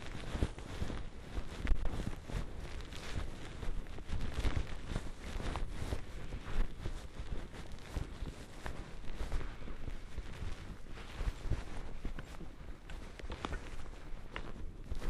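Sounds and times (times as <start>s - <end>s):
skis rushing through snow: 0.0s - 15.0s.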